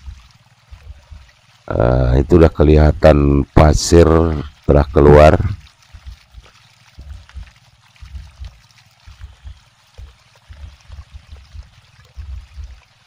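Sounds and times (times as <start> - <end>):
dull low thuds: 0.0 - 3.0, 4.4 - 13.0
water gurgling and splashing: 0.0 - 13.0.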